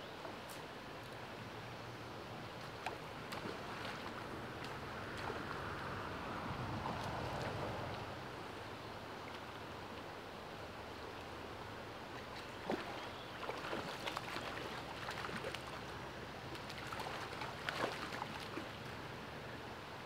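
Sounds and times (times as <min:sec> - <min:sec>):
shallow stream running: 0:00.0 - 0:20.0.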